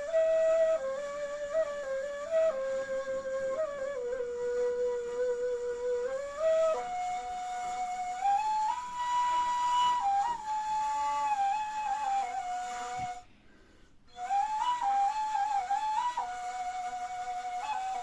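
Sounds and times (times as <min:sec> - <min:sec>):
solo flute-like wind instrument: 0:00.0 - 0:13.4, 0:14.1 - 0:18.0.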